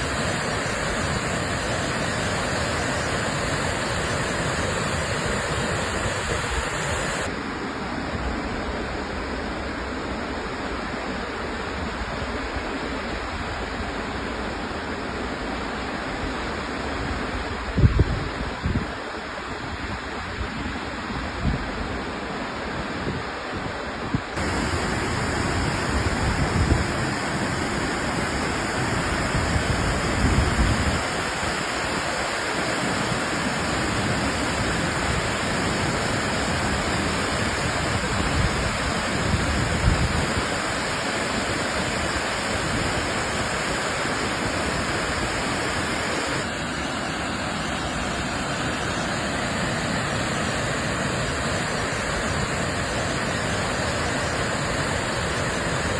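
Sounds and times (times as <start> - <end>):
wind gusts on microphone: 0.0 - 7.4, 11.5 - 55.9
waterfall roaring: 0.0 - 55.9.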